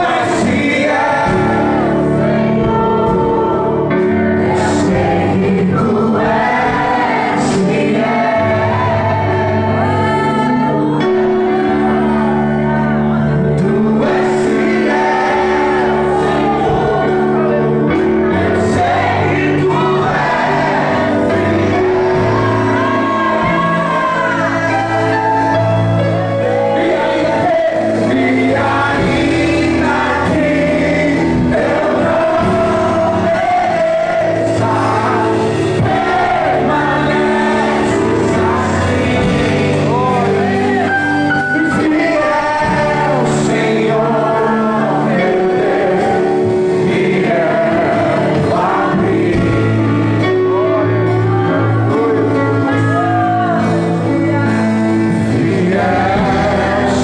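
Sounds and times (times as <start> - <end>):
acoustic guitar: 0.0 - 57.0
keyboard: 0.0 - 57.0
man singing into a microphone: 0.0 - 57.0.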